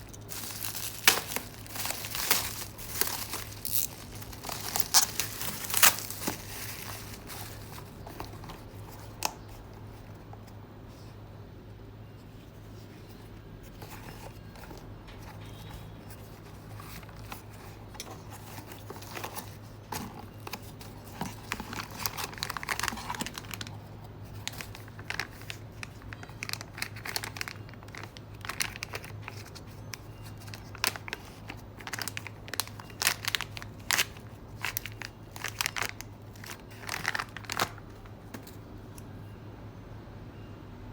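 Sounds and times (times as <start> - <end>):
packaging crinkling and tearing: 0.0 - 9.7, 13.7 - 38.5
low steady hum: 0.0 - 40.9.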